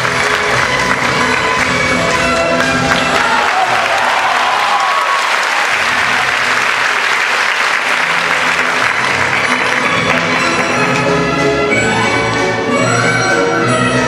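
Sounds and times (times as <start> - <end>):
orchestral ballet music: 0.0 - 4.4, 5.7 - 14.0
audience applauding: 0.0 - 11.3.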